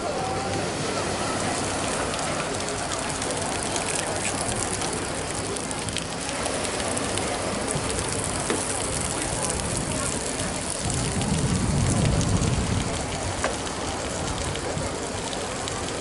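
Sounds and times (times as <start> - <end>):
faint murmuring voices: 0.0 - 16.0
pebble beach hissing and crackling: 1.2 - 16.0.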